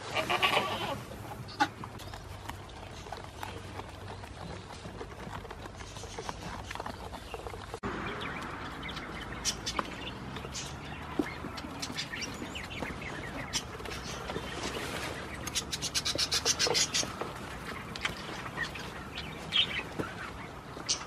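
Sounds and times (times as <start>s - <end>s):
goat chewing hay: 0.0s - 21.0s
small birds chirping: 0.4s - 21.0s.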